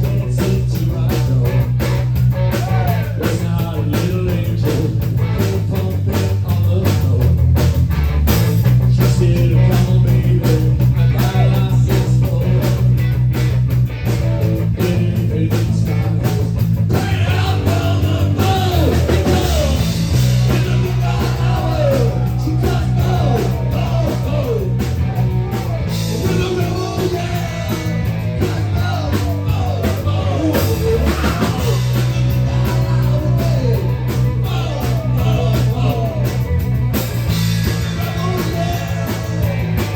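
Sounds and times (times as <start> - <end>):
rock song with singing: 0.0 - 39.9.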